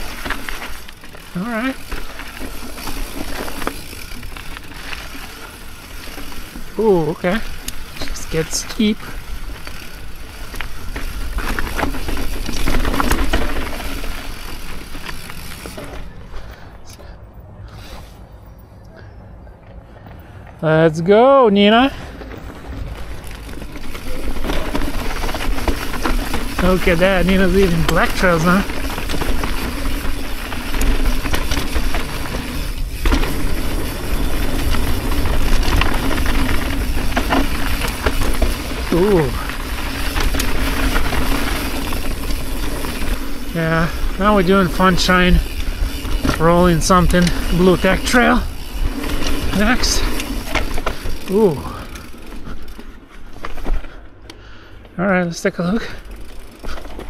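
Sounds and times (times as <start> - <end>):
bike tyres rolling over dirt and rock: 0.0 - 17.0, 21.0 - 57.0
bike rattling with clicks and knocks: 0.0 - 17.1, 21.6 - 57.0.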